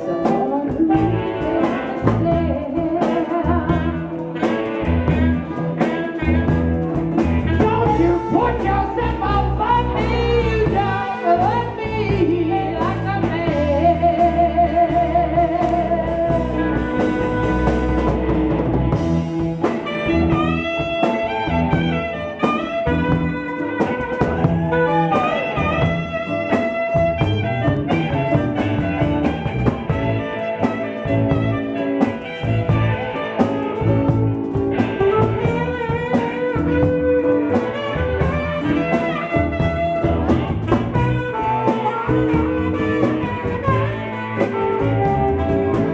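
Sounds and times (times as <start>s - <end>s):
person singing: 0.0s - 18.2s, 19.6s - 45.9s
blues band playing: 0.0s - 45.9s.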